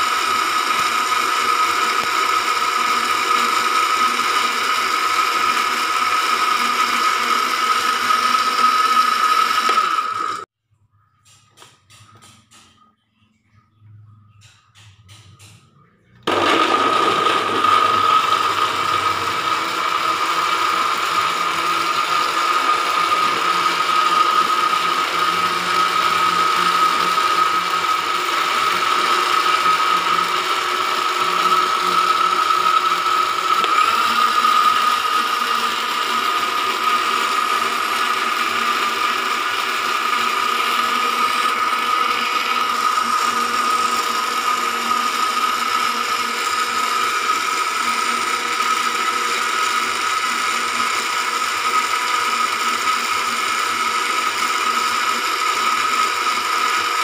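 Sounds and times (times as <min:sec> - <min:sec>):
blender motor whining: 0:00.0 - 0:10.5, 0:16.1 - 0:57.0.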